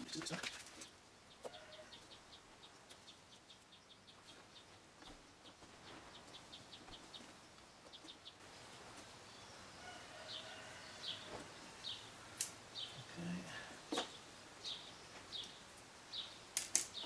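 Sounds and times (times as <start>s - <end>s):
small bird chirping: 0.7s - 17.0s.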